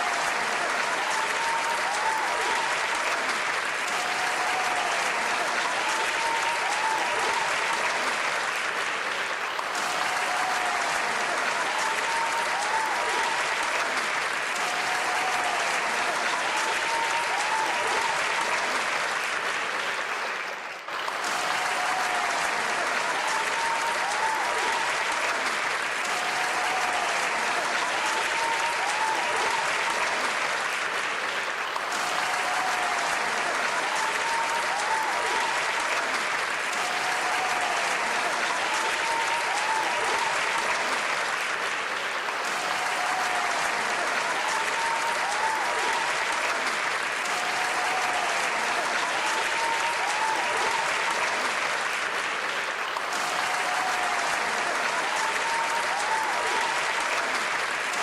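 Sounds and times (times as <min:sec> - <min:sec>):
audience applauding: 0:00.0 - 0:58.0.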